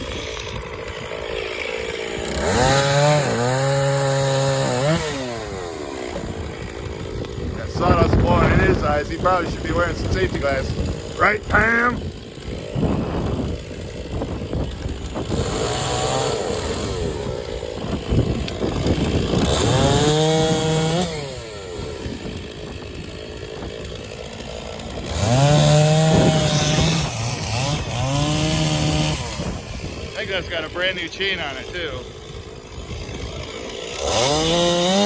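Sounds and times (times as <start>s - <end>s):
chainsaw cutting a log: 0.0s - 35.0s.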